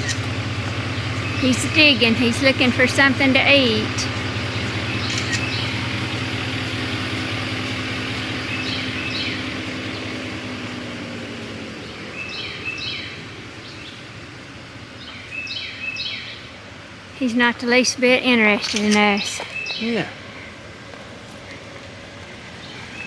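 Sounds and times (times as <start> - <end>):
bird chirping: 0.0 - 16.6, 17.2 - 20.6
vehicle engine humming: 0.0 - 23.0.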